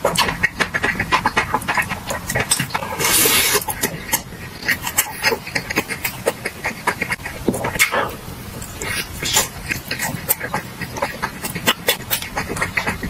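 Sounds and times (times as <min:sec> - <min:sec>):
chewing fried food: 0:00.0 - 0:13.0.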